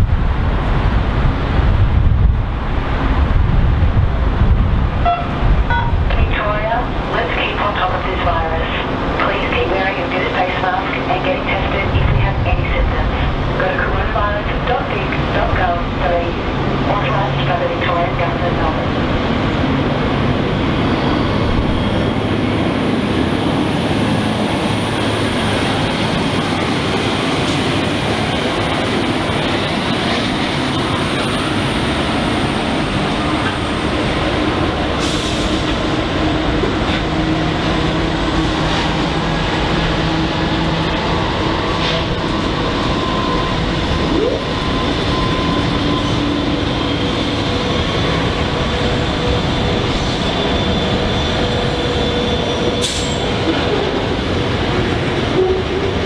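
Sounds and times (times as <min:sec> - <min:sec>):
diesel locomotives rumbling: 0:00.0 - 0:56.0.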